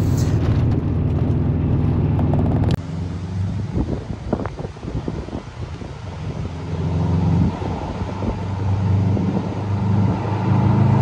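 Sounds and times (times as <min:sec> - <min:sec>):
car engine approaching: 0:00.0 - 0:11.0.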